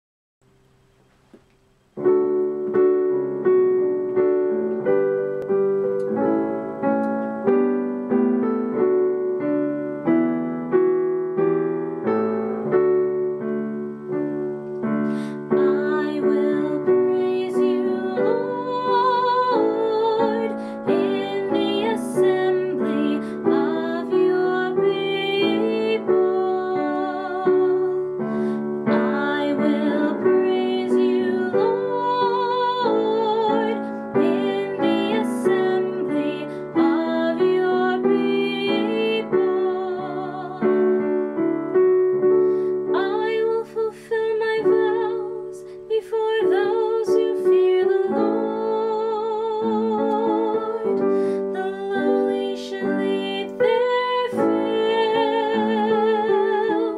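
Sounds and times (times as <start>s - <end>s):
electric piano chords: 1.3s - 56.9s.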